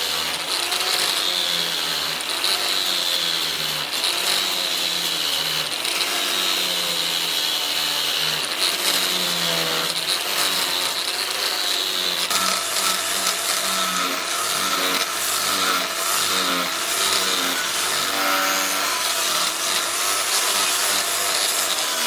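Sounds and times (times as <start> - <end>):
power tool on steel: 0.0 - 22.0.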